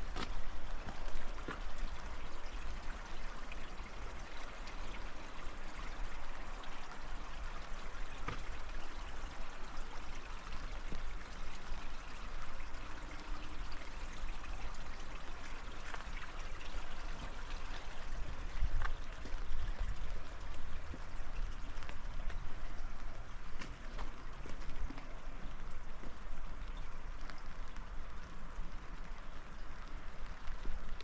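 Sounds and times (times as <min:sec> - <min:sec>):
rain: 0:00.0 - 0:31.0
running water rushing: 0:00.0 - 0:31.0
water drips: 0:00.0 - 0:31.0.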